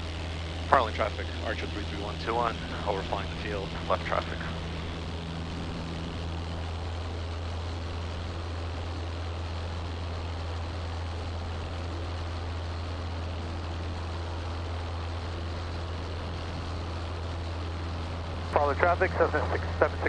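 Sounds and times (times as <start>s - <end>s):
airplane engine and propeller droning: 0.0s - 20.0s.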